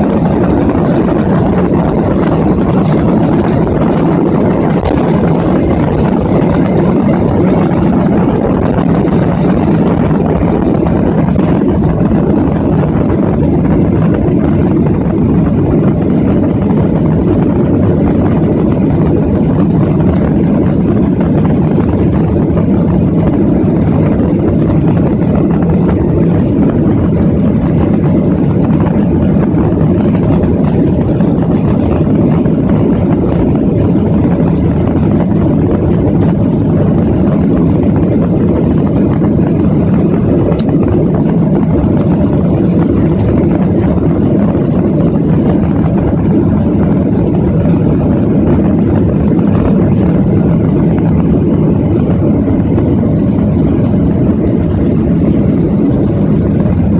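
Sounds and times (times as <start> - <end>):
jet engine noise in cabin: 0.0 - 56.9.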